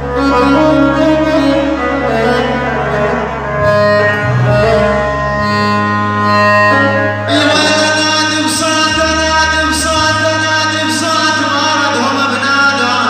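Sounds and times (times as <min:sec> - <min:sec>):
bowed string melody: 0:00.0 - 0:13.0
held bass notes: 0:00.0 - 0:13.0.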